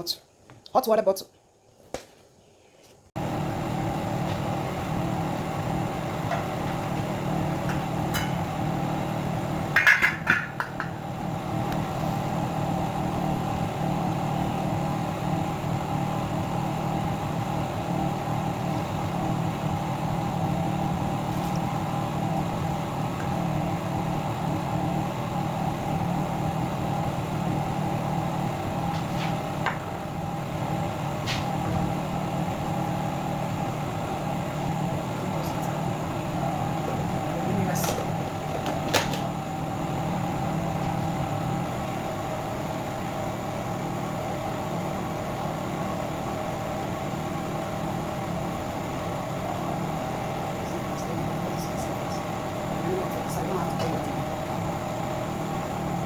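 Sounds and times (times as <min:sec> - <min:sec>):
machine hum: 0:03.2 - 0:56.0.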